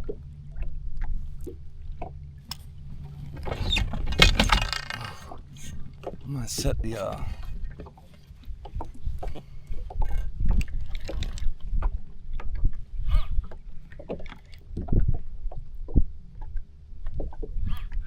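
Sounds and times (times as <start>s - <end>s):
water splashing against hull: 1.0s - 17.7s.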